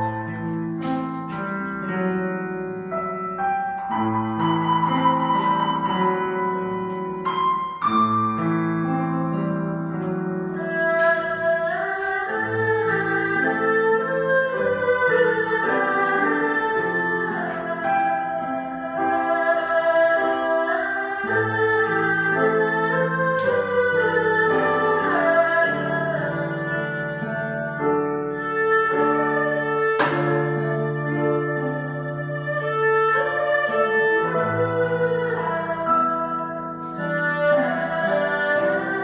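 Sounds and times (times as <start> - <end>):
held lower string notes: 0.0 - 39.0
violin playing slow melody: 0.0 - 39.0.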